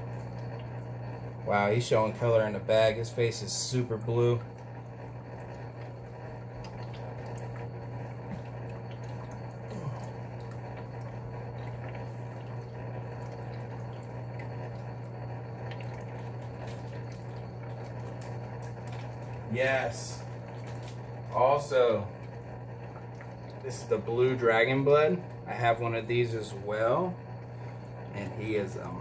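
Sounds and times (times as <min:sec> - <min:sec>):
low equipment hum: 0:00.0 - 0:29.0
water trickling and bubbling: 0:00.0 - 0:29.0.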